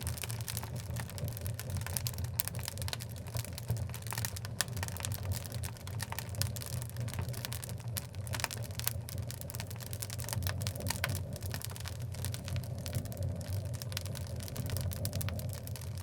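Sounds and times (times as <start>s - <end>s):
fire crackles and pops: 0.0s - 16.0s
fire rumbling and hissing: 0.0s - 16.0s.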